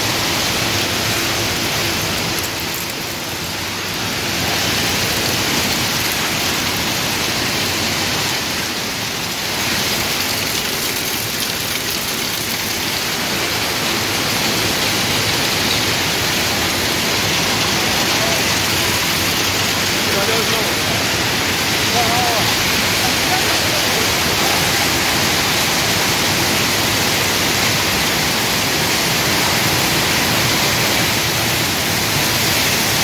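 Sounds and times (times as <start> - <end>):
sand sorting machinery hissing: 0.0 - 33.0.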